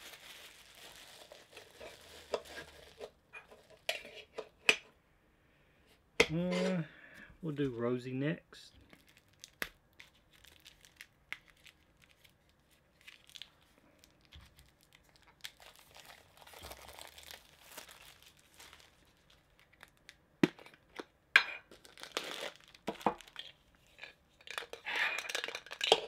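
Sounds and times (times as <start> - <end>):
plastic wrapping crinkling and tearing: 0.0 - 4.0, 8.8 - 26.0.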